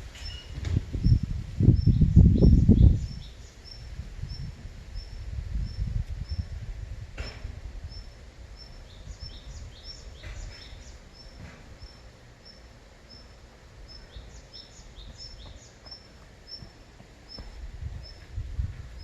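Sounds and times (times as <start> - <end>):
low wind rumble: 0.0 - 19.0.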